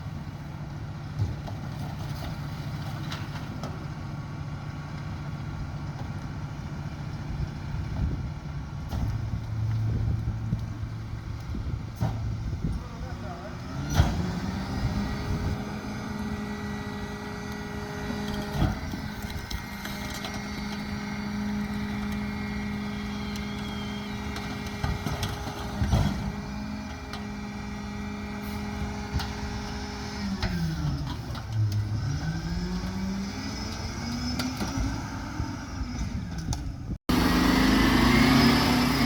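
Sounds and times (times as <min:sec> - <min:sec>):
garbage truck diesel engine: 0:00.0 - 0:39.0.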